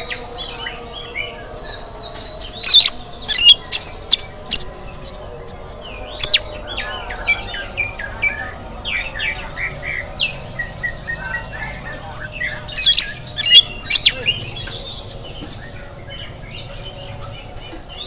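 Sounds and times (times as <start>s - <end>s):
bird singing: 0.0s - 18.0s.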